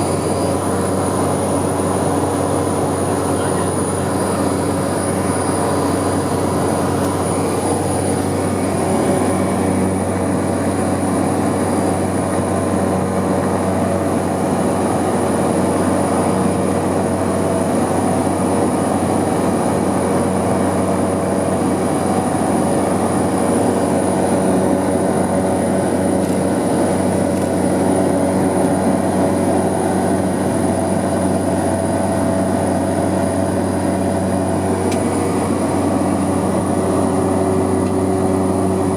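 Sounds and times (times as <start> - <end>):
high engine whine: 0.0 - 38.9
turboprop engine drone: 0.0 - 38.9.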